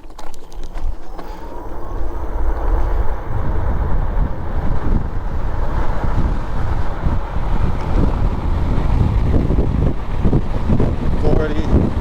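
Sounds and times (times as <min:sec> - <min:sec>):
electric motor whine: 0:00.0 - 0:12.0
wind buffeting microphone: 0:00.0 - 0:12.0.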